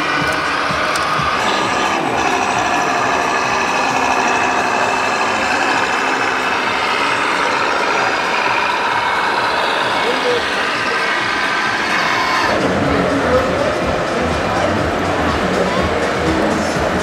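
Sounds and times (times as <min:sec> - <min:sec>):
exhibition hall din: 0:00.0 - 0:17.0
toy truck engine sound: 0:00.0 - 0:17.0.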